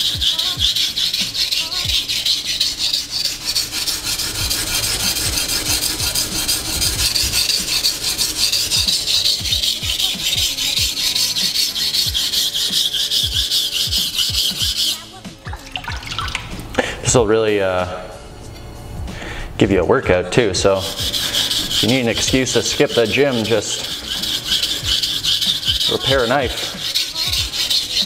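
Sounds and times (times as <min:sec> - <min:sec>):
knife grinding on waterstone: 0:00.0 - 0:16.7, 0:20.6 - 0:28.0.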